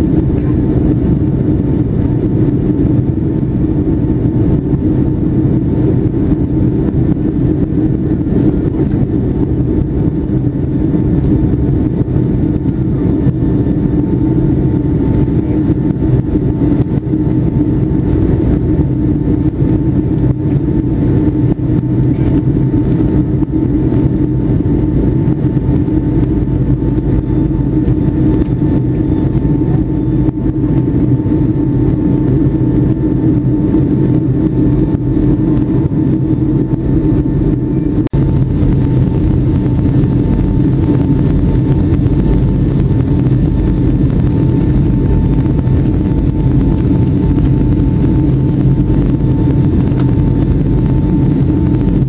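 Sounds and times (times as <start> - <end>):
faint steady whine: 0.0 - 52.0
jet engine drone: 0.0 - 52.0
rushing air: 0.0 - 52.0.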